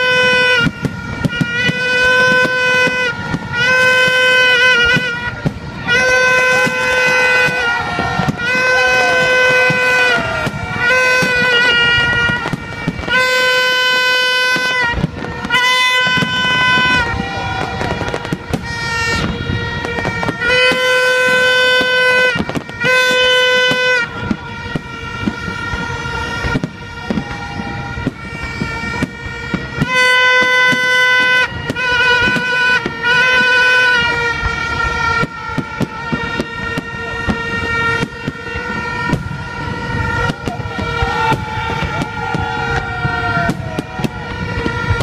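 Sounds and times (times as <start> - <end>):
horns tooting: 0.0 - 45.0
large outdoor crowd: 0.0 - 45.0.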